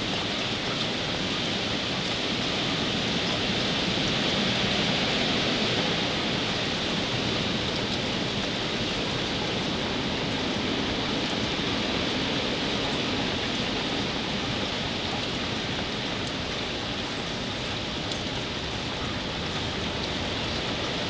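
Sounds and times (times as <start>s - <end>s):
rain: 0.0s - 21.0s
wind: 0.0s - 21.0s.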